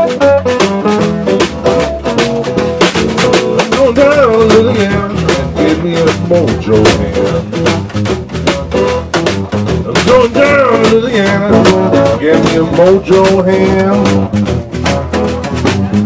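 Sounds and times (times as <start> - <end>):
resonator guitar: 0.0 - 16.0
snare drum steady beat: 0.0 - 16.0
upright double bass: 0.0 - 16.0.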